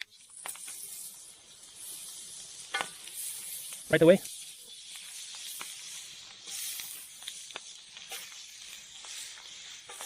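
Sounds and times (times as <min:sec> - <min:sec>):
ribs sizzling in hot oil: 0:00.0 - 0:10.0.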